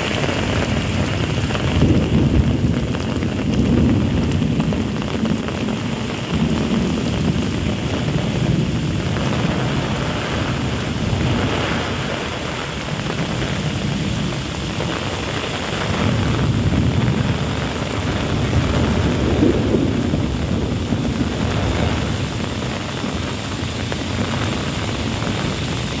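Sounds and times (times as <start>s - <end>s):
heavy rain pouring: 0.0s - 26.0s
wind gusts buffeting microphone: 0.0s - 26.0s.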